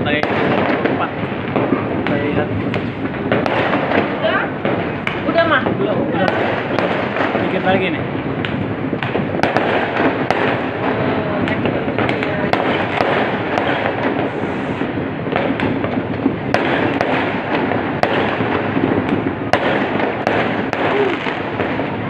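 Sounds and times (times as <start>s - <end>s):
firecracker bangs: 0.0s - 22.0s
fireworks crackling: 0.0s - 22.0s.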